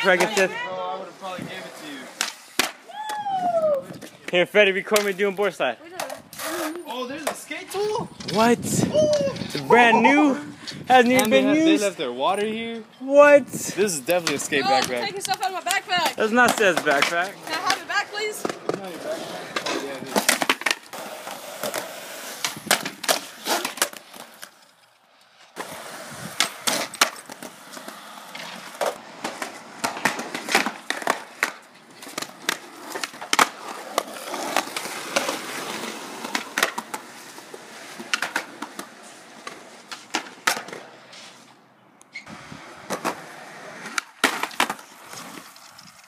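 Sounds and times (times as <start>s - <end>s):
skateboard clacking on ground: 0.0s - 0.7s, 3.8s - 9.7s, 14.1s - 41.2s, 42.1s - 46.0s
skateboard wheels rolling on concrete: 0.0s - 46.0s.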